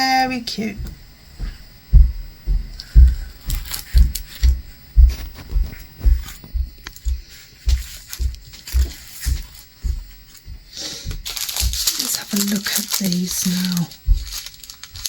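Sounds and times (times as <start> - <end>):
steady low thumping: 0.0 - 11.9, 13.9 - 15.0
plastic packaging crinkling: 2.8 - 15.0.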